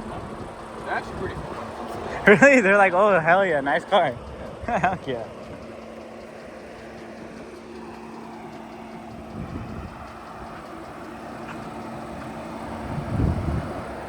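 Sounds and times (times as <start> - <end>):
car engine idling: 0.0 - 14.0
outdoor noise: 0.0 - 14.0.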